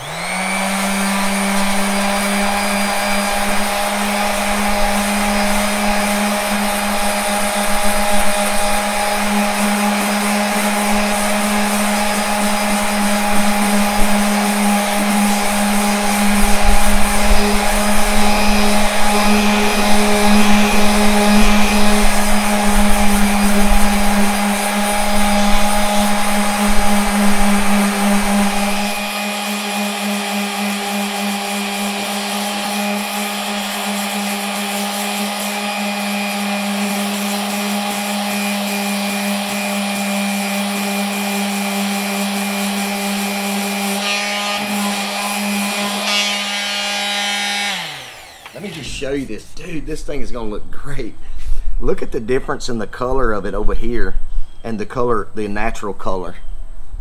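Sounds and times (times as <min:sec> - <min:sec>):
electric sander running: 0:00.0 - 0:49.7.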